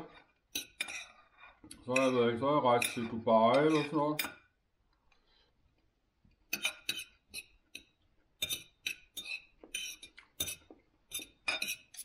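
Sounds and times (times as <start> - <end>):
fork scraping on a plate: 0.0 - 4.4, 6.5 - 12.0.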